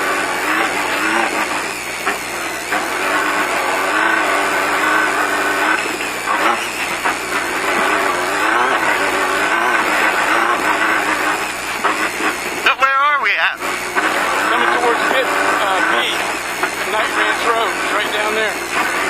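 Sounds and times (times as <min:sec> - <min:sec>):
race car engine: 0:00.0 - 0:19.0.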